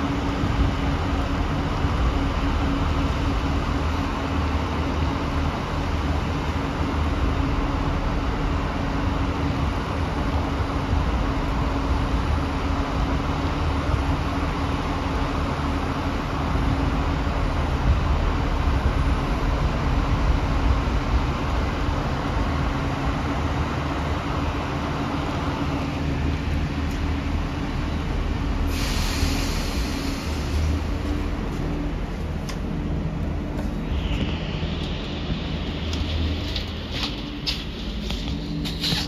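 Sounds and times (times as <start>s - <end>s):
diesel railcar engine hum: 0.0s - 39.0s.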